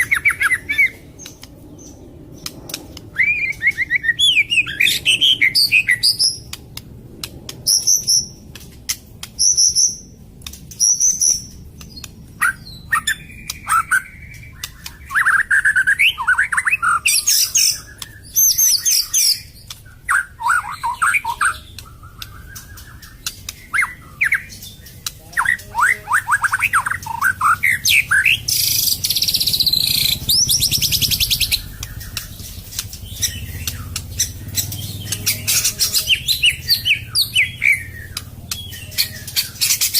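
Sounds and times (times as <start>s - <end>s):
songbird singing varied song: 0.0s - 6.8s, 9.2s - 39.9s.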